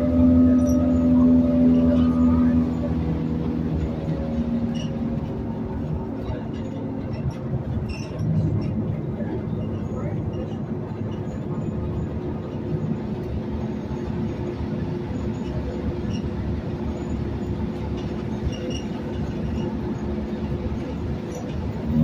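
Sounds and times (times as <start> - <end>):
bus engine running: 0.0 - 22.0
road and tyre rumble: 0.0 - 22.0.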